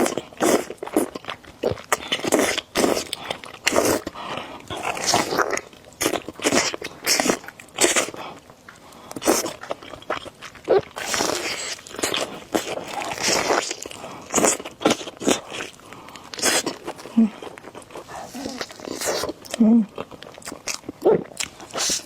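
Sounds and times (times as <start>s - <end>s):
person chewing noodles: 0.0s - 22.0s.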